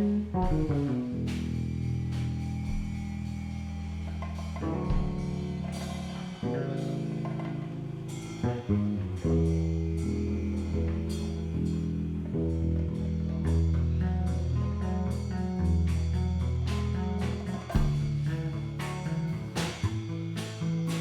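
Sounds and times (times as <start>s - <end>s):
bass notes: 0.0s - 21.0s
drum kit and cymbals: 0.0s - 21.0s
guitar playing chords: 0.0s - 21.0s.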